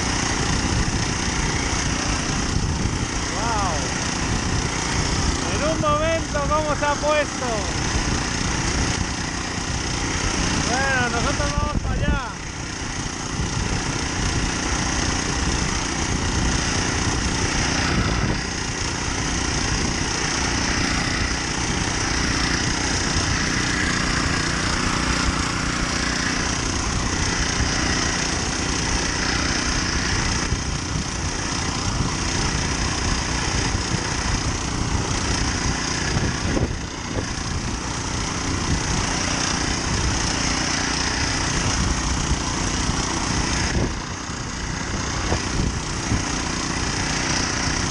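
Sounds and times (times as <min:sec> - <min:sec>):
small engine running under load: 0:00.0 - 0:47.9.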